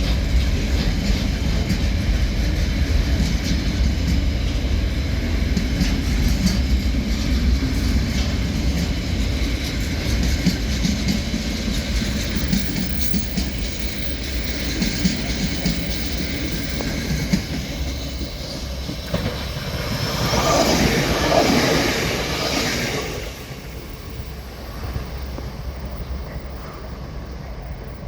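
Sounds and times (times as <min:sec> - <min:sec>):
diesel train rumbling past: 0:00.0 - 0:28.0
wheels clicking over rail joints: 0:00.0 - 0:28.0.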